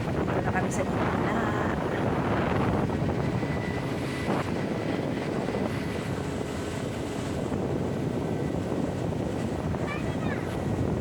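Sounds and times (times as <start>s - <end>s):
motorboat engine running: 0.0s - 11.0s
wind and water rushing: 0.0s - 11.0s.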